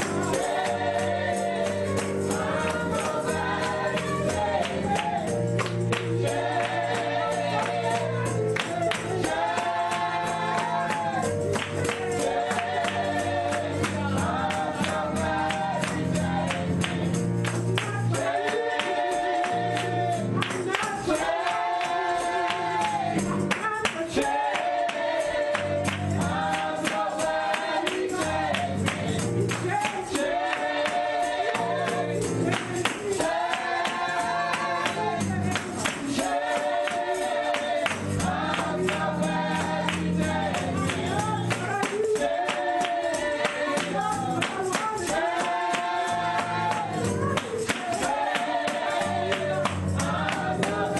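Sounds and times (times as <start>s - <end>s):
accompanying instruments: 0.0s - 50.9s
congregation singing gospel: 0.0s - 50.9s
tambourine beat: 0.0s - 50.9s.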